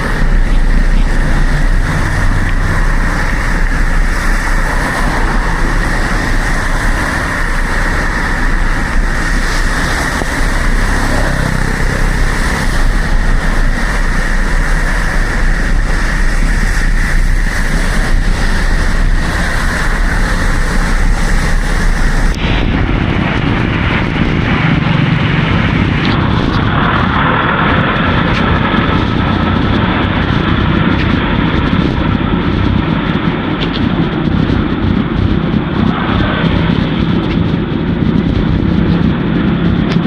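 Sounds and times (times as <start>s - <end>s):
road noise: 0.0s - 40.0s
wind rushing over microphone: 0.0s - 40.0s.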